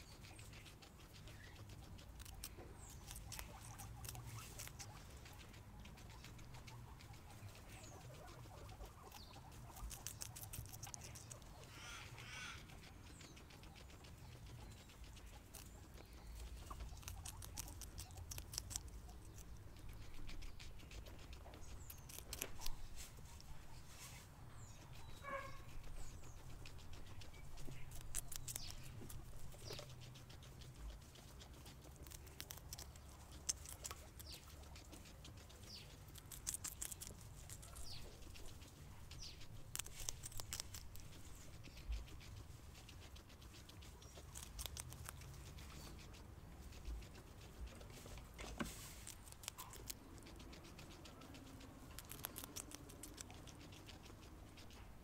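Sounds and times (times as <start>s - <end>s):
guinea pig crunching pepper: 0.0s - 55.0s.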